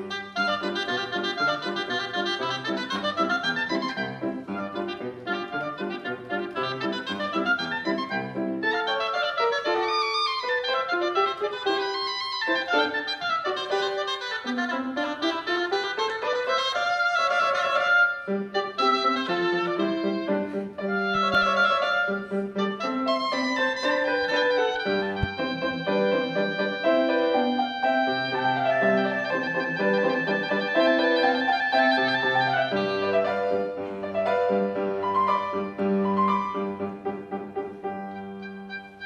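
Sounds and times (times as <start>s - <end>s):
grand piano accompaniment: 0.0s - 39.0s
solo melody line: 0.0s - 39.0s.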